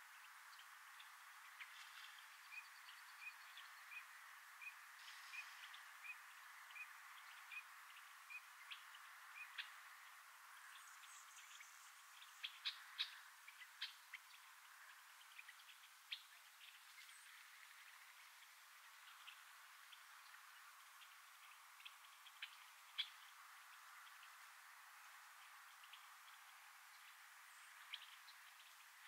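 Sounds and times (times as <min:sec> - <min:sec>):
steady hiss: 0:00.0 - 0:29.0
faint bird calls: 0:00.1 - 0:24.6.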